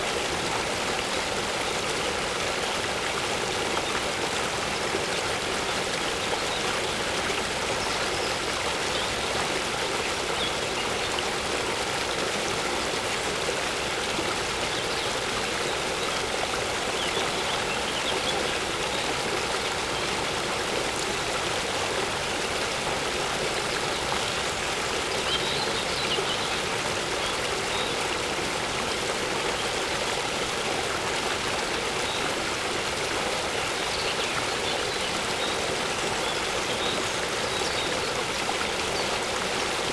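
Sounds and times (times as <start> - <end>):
waterfall rushing into lake: 0.0 - 39.9.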